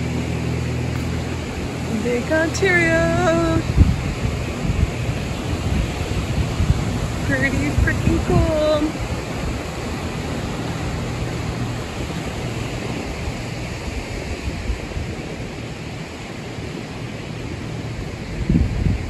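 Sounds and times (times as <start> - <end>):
surf breaking on a beach: 0.0 - 19.0
wind buffeting the microphone: 0.0 - 19.0.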